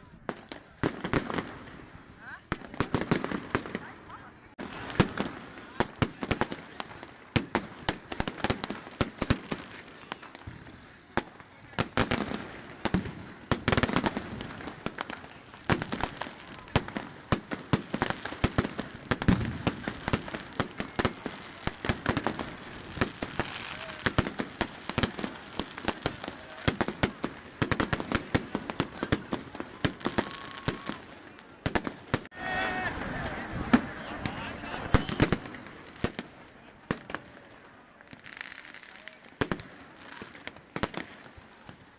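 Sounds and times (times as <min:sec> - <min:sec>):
fireworks banging: 0:00.2 - 0:32.3, 0:32.9 - 0:41.9.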